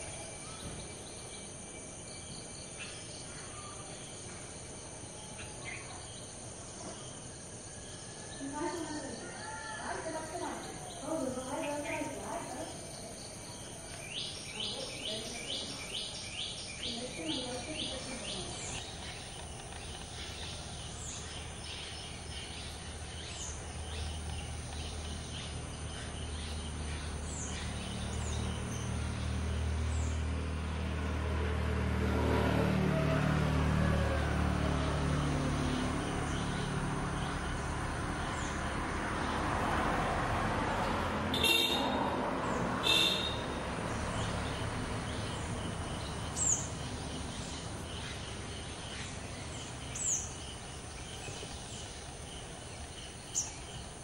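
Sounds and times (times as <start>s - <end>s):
birds chirping: 0.0s - 30.5s, 34.9s - 54.0s
motor vehicle passing: 7.1s - 54.0s.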